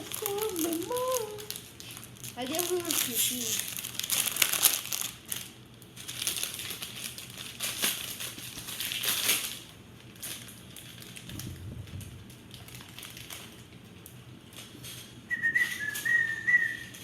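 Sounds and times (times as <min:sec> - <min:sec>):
foil wrappers crinkling: 0:00.0 - 0:17.0.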